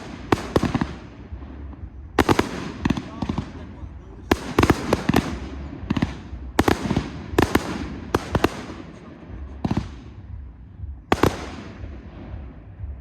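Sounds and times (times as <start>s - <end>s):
fireworks exploding: 0.0s - 10.4s, 11.1s - 12.6s.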